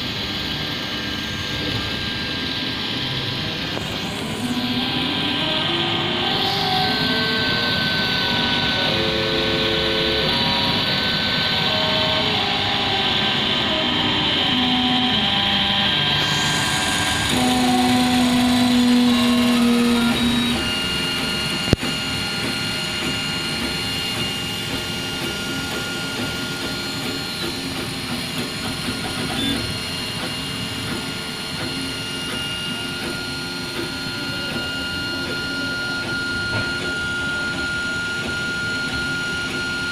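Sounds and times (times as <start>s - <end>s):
cooling fans humming: 0.0s - 39.9s
stepper motors whining: 0.0s - 39.9s.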